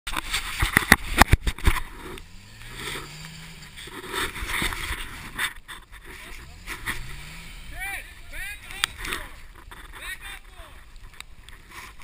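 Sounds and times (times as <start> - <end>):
sharp knocks and scrapes: 0.1 - 7.5, 8.7 - 12.0
distant engine revving: 0.9 - 11.6.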